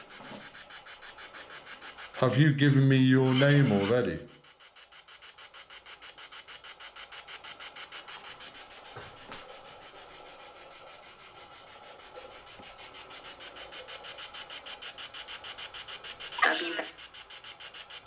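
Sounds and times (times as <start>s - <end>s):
pulsing static hiss: 0.0s - 18.0s.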